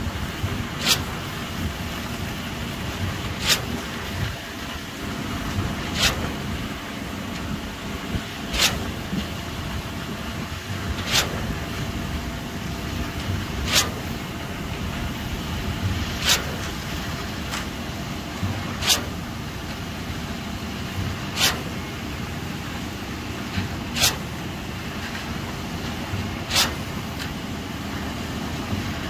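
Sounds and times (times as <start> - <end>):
concrete pump clack-hiss: 0.0 - 29.0
diesel engine rumble: 0.0 - 29.0.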